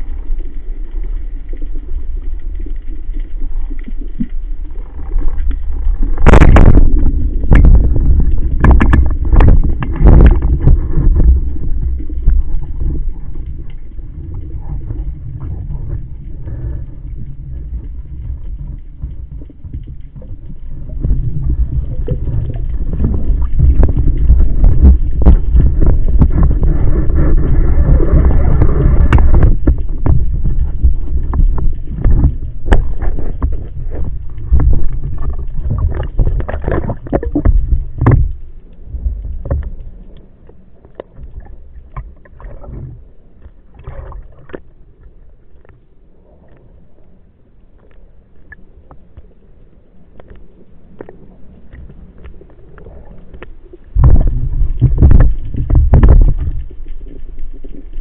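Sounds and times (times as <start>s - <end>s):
muffled underwater rumbling: 0.0s - 58.0s
sharp clicks and crackles: 0.0s - 58.0s.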